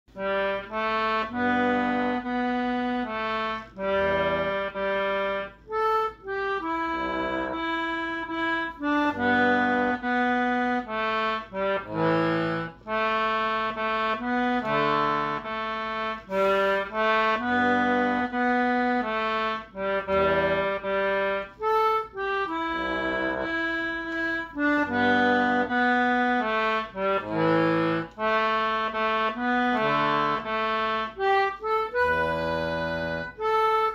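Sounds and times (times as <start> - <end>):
concertina playing a tune: 0.1 - 33.9.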